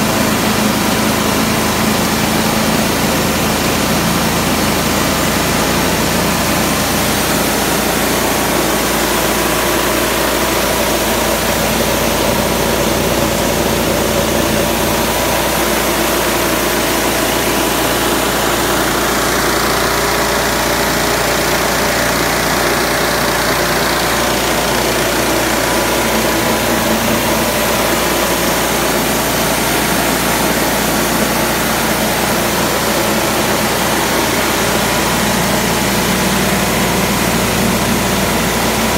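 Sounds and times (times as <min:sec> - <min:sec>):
petrol engine running steadily: 0:00.0 - 0:38.9.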